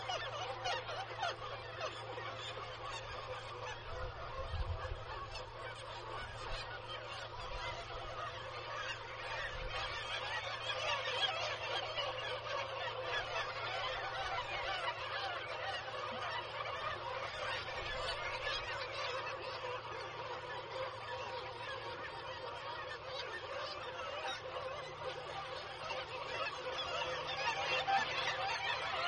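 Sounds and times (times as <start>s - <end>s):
seabird colony calling: 0.0s - 29.0s.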